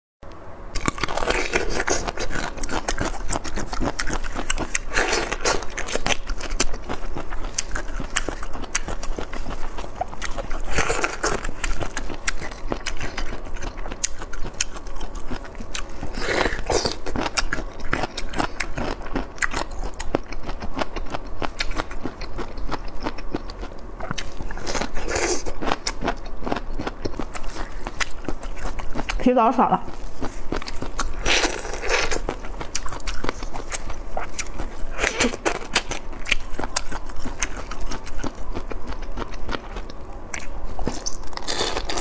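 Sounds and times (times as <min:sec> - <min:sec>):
crunchy chewing: 0:00.7 - 0:42.0.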